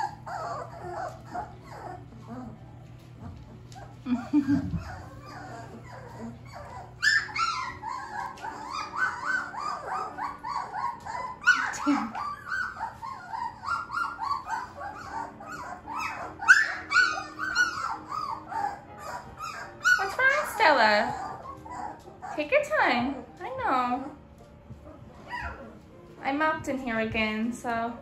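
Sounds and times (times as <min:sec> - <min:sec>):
puppies whimpering and squeaking: 0:00.0 - 0:28.0.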